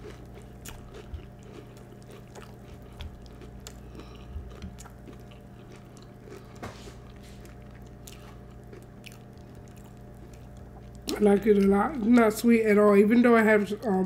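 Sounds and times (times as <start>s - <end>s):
person chewing cereal: 0.0s - 14.0s
steady low hum: 0.0s - 14.0s.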